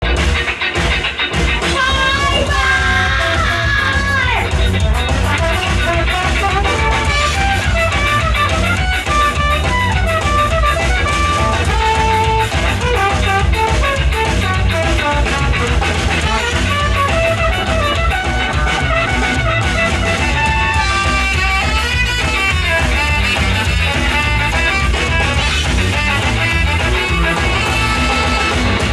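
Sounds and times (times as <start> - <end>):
ska-punk band playing: 0.0 - 28.9.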